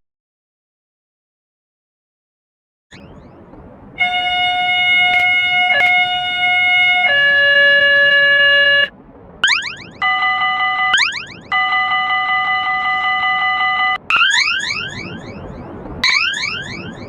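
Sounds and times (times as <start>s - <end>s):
electronic warning siren: 2.9s - 17.0s
rising siren sweep: 2.9s - 17.0s.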